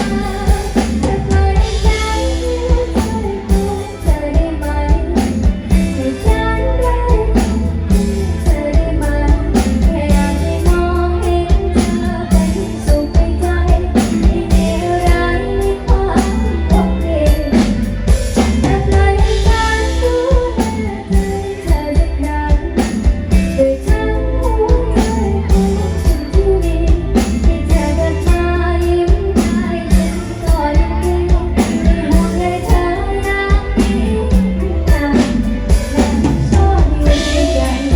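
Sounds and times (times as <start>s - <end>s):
band with guitar and drums: 0.0s - 37.9s
woman singing pop ballad: 0.0s - 37.9s.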